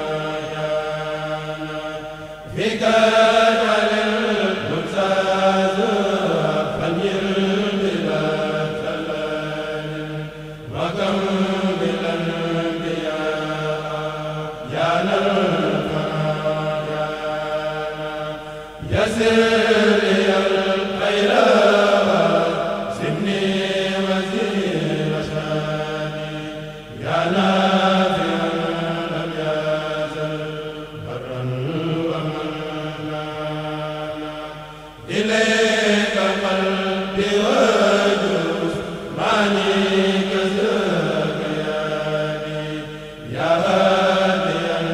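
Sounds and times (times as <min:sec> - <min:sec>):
men chanting through microphones: 0:00.0 - 0:44.9.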